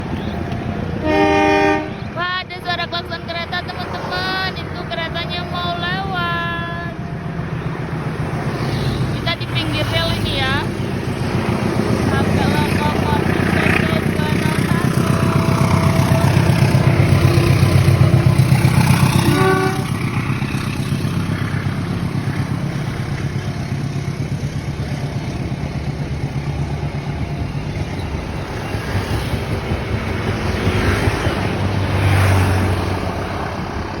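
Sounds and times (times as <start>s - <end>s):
train engine throbbing: 0.0s - 34.0s.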